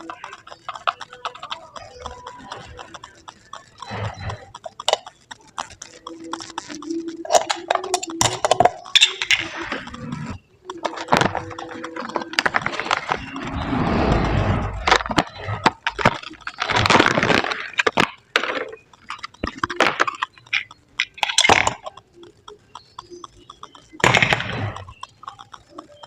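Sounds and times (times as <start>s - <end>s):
tools clicking and knocking: 0.0s - 26.0s.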